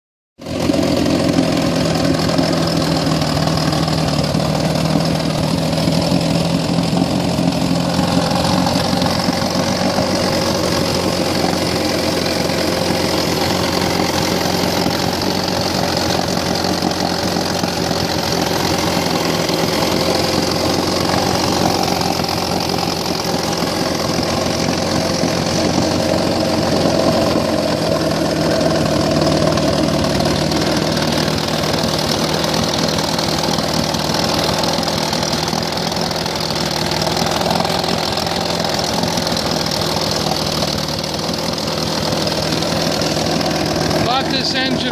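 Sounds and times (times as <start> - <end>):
outboard motor running: 0.4 - 44.9.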